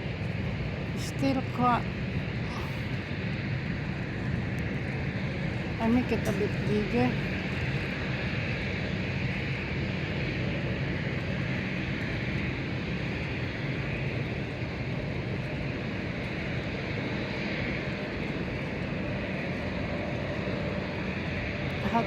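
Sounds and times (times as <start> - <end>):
distant jet engines: 0.0 - 22.0.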